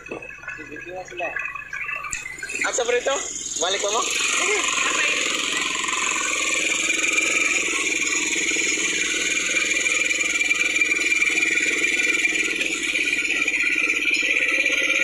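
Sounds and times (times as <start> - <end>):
small atv engines running: 2.0 - 15.0.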